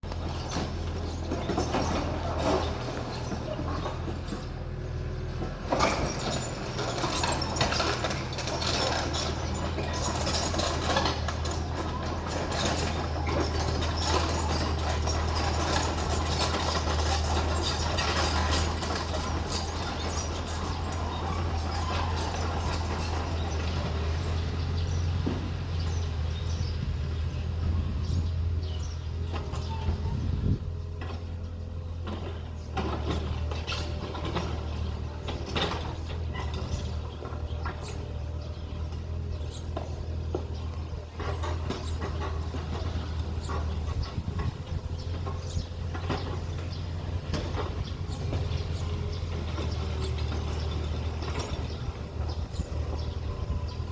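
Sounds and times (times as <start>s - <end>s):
metal clanking and rattling: 0.0s - 26.7s, 28.0s - 53.9s
heavy machine engine drone: 0.0s - 53.9s.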